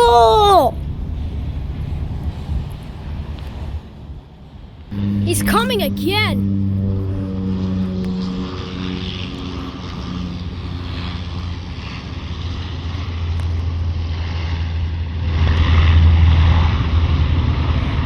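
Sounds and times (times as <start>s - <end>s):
propeller airplane engine drone: 0.8s - 18.0s.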